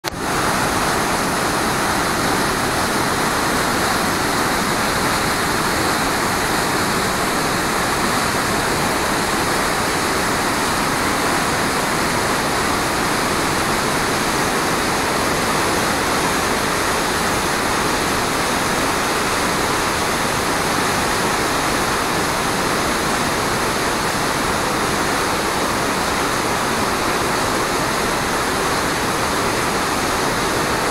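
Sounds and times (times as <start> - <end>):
river rapids rushing: 0.0 - 30.9.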